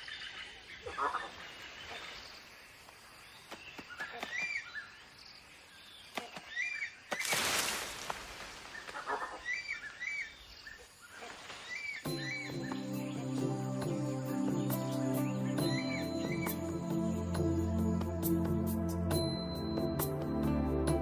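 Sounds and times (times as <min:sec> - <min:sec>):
bird chirping: 0:00.0 - 0:07.3, 0:08.7 - 0:20.0.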